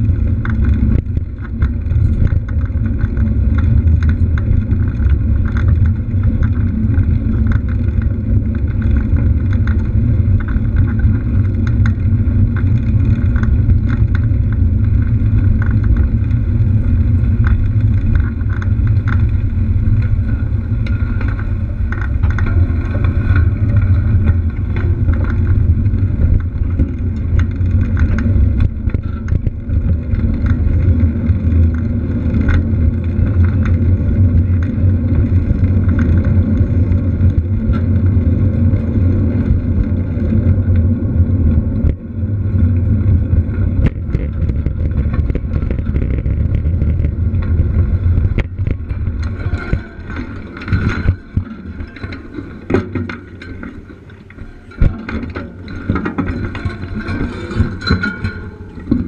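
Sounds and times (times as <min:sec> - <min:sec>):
bike tyres on concrete: 0:00.0 - 0:59.0
wind rumble on microphone: 0:00.0 - 0:59.0.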